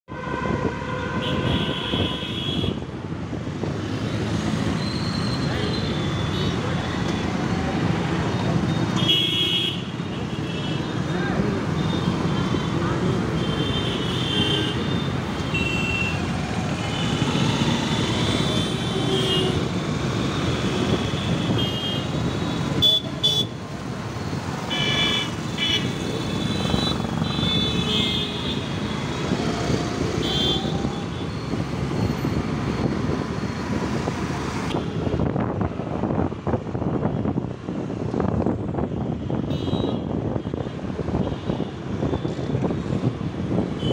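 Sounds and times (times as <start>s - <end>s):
scooter engine and road noise: 0.1s - 43.9s.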